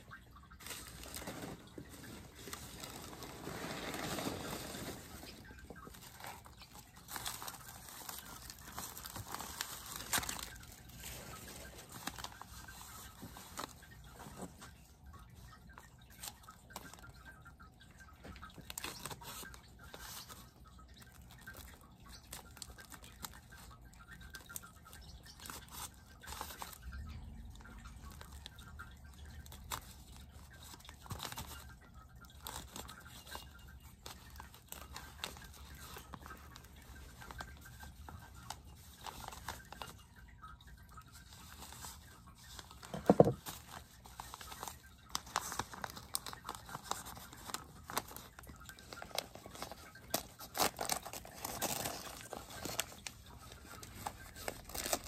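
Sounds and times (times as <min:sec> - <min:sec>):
paper and plastic crinkling: 0:00.0 - 0:55.0.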